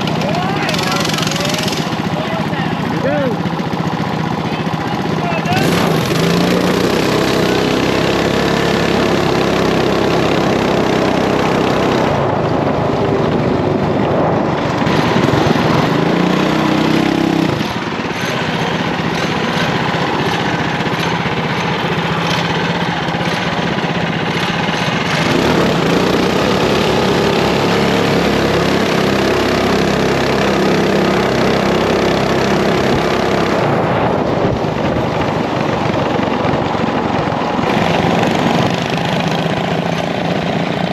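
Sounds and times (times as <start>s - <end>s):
mini bike engine revving: 0.0s - 40.9s.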